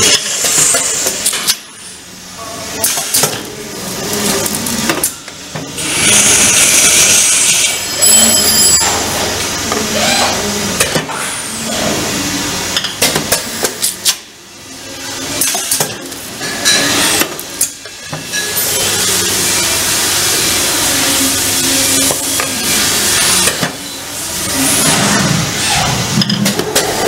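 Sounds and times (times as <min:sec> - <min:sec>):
steady noisy background: 0:00.0 - 0:27.0.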